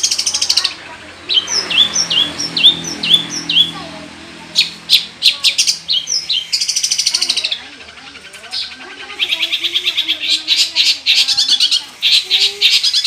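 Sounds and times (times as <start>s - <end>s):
shrike chattering and whistling: 0.0s - 13.0s.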